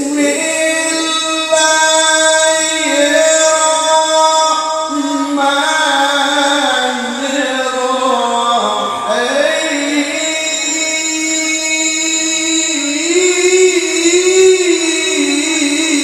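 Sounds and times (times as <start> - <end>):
man chanting through a microphone: 0.0 - 16.0.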